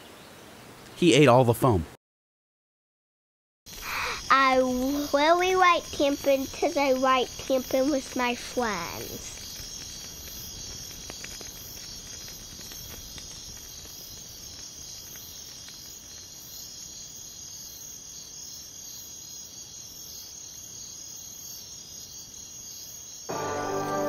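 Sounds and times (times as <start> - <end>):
crickets chirping: 3.7 - 24.0.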